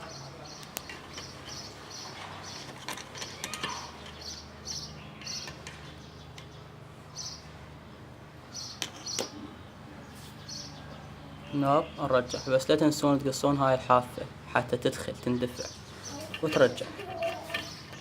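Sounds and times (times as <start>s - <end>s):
bird chirping: 0.0s - 7.5s, 8.5s - 12.8s, 15.2s - 18.0s.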